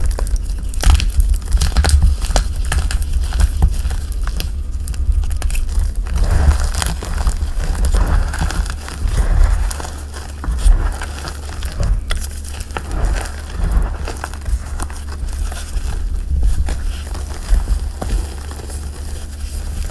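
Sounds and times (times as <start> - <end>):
chalk crunching and crackling: 0.0 - 19.9
gritty rubbing: 0.0 - 19.9.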